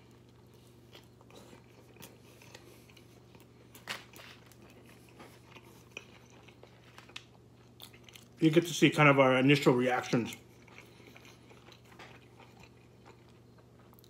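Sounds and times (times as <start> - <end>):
low steady hum: 0.0 - 14.0
wet chewing and mouth smacks: 0.1 - 8.4, 10.3 - 14.0.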